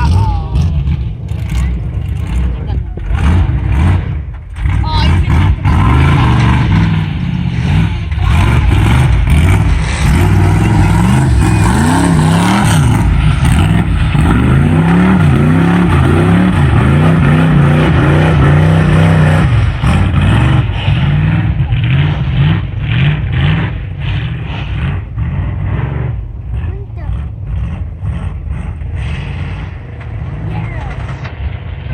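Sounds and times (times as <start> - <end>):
truck engine revving: 0.0 - 31.9.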